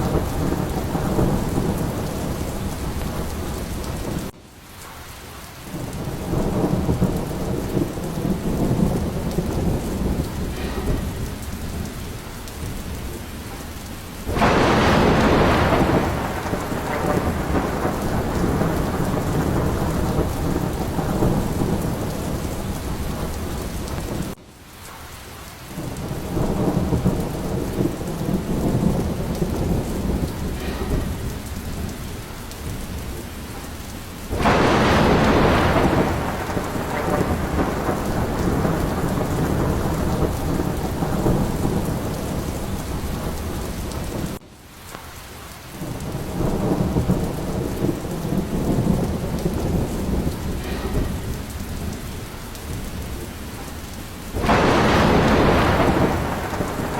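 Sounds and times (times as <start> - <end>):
rolling thunder: 0.0 - 4.4, 5.6 - 24.4, 25.7 - 44.4, 45.7 - 56.9
thunderclap: 0.0 - 5.0, 5.7 - 24.4, 25.7 - 44.4, 45.8 - 56.9
heavy rain: 0.0 - 56.9.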